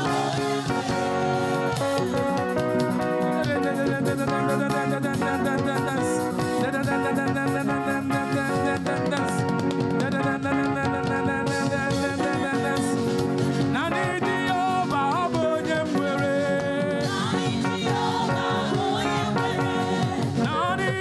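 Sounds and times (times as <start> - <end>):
band playing upbeat gospel groove: 0.0 - 21.0.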